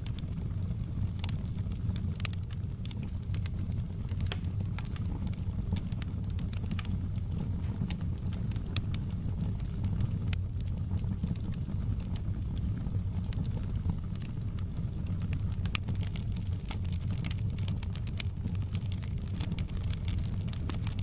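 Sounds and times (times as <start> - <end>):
fire burning with pops and crackles: 0.0 - 21.0.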